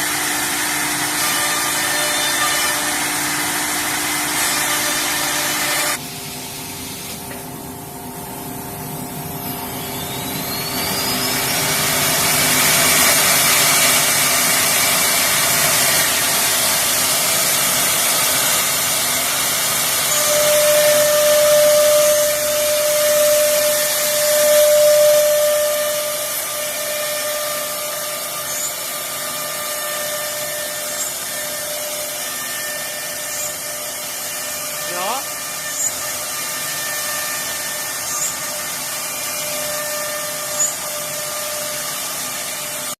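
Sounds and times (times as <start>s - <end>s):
cnc router spindle whine: 0.0s - 6.0s, 7.8s - 42.9s.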